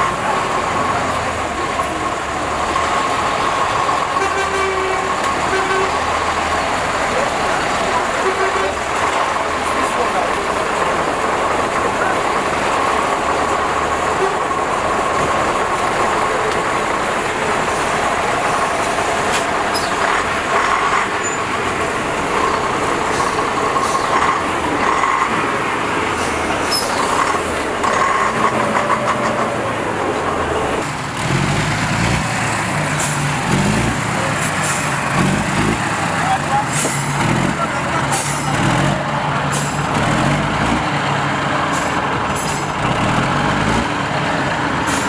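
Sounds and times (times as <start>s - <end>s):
heavy truck engines running: 0.0s - 45.0s.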